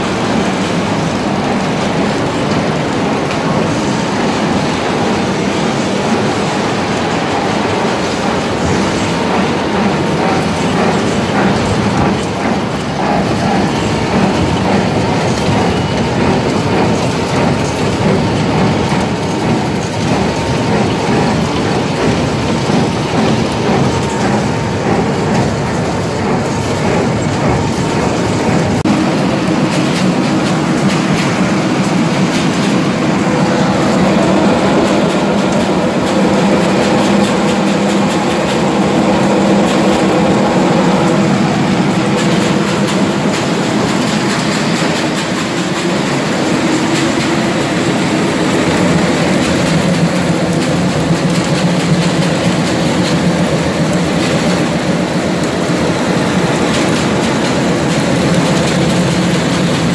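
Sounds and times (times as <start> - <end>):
mill machinery drone: 0.0 - 59.9
rattling of kernels in conveyors: 0.0 - 59.9.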